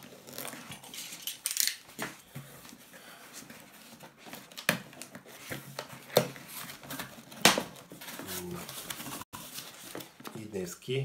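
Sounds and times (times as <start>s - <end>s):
tape scraping and rustling: 0.0s - 2.8s, 3.4s - 10.5s.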